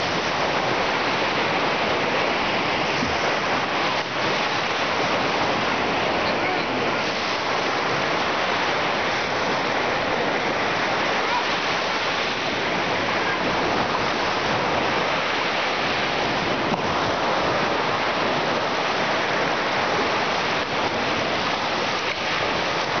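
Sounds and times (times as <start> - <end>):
surf washing up a beach: 0.0 - 23.0.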